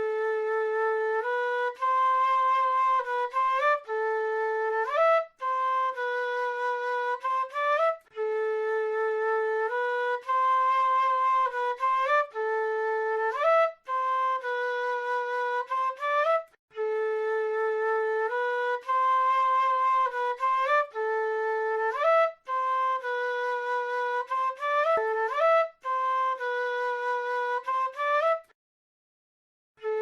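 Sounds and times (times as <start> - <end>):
flute playing slow melody: 0.0 - 28.6, 29.8 - 30.0.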